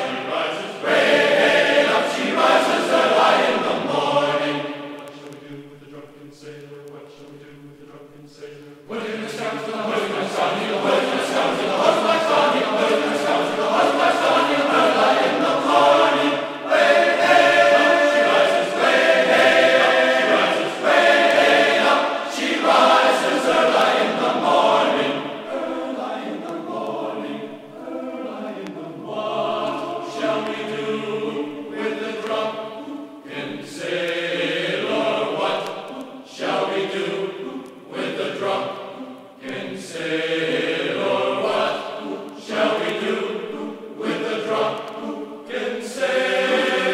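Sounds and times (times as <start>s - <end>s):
group singing a sea shanty: 0.0s - 46.9s.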